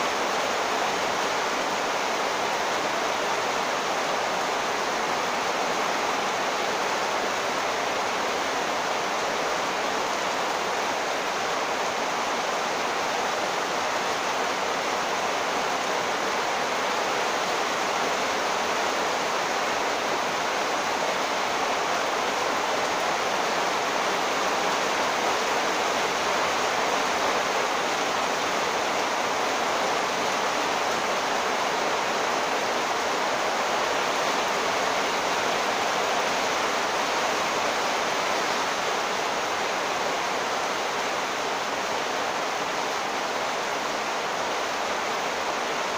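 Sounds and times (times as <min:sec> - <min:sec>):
heavy rain hiss: 0:00.0 - 0:45.9.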